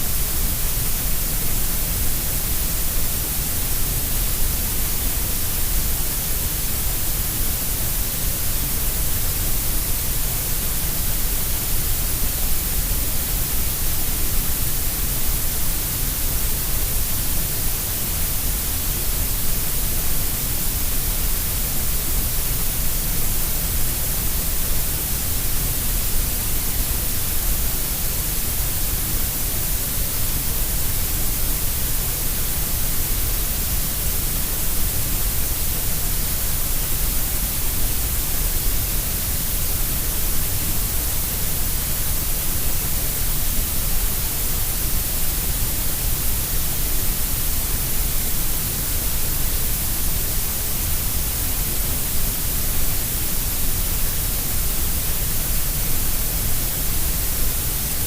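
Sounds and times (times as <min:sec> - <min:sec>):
steady synthesized noise hiss: 0:00.0 - 0:58.0.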